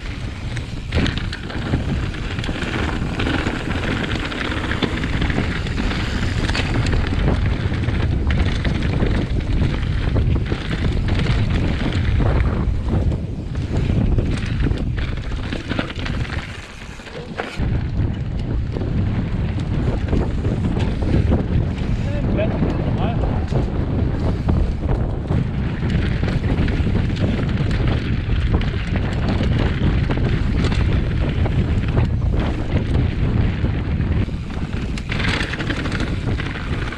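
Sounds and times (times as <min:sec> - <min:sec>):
bike frame rattling: 0:00.0 - 0:36.9
tyres rolling on stony trail: 0:00.0 - 0:36.9
wind buffeting microphone: 0:00.0 - 0:36.9.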